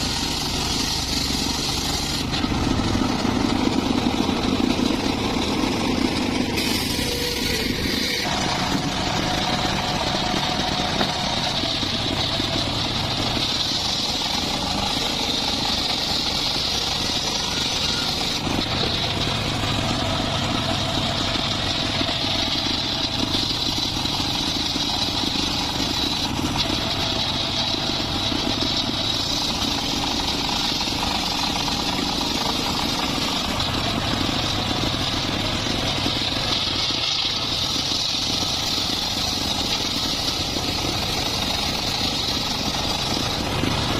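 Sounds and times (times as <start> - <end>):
circular saw engine running: 0.0 - 43.9.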